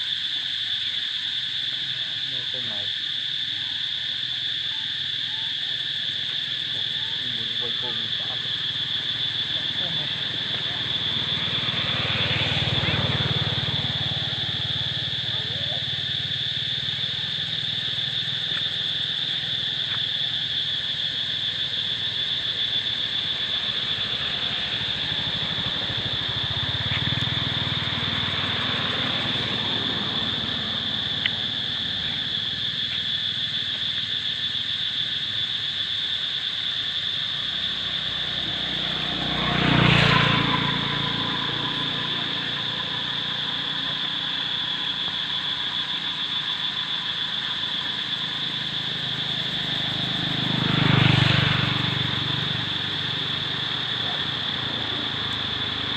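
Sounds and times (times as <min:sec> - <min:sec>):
high-pitched insect drone: 0:00.0 - 0:55.9
vehicle passing by: 0:06.5 - 0:32.9, 0:36.9 - 0:55.9.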